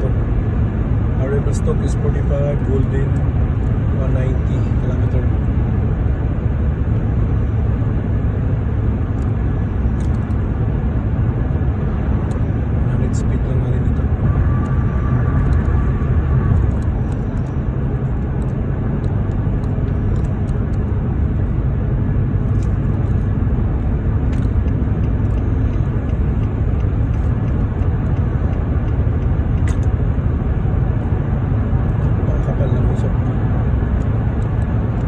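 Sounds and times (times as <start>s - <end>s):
car driving on highway: 0.0s - 35.0s.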